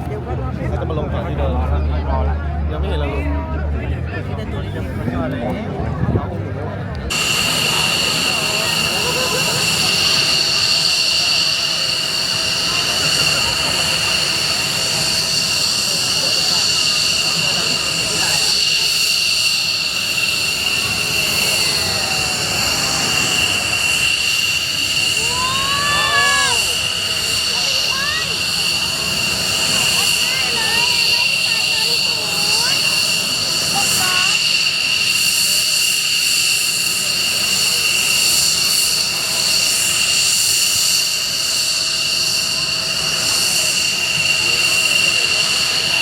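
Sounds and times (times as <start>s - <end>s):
jet engine whine: 0.0s - 46.0s
jet engine rushing noise: 3.6s - 46.0s.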